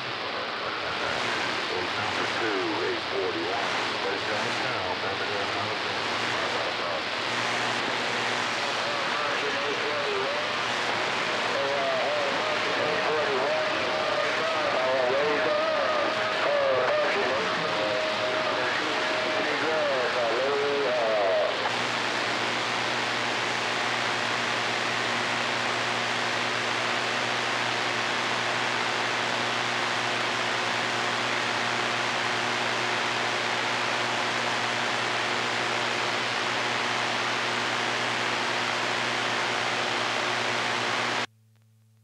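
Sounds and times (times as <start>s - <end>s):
radio static hiss: 0.0s - 41.3s.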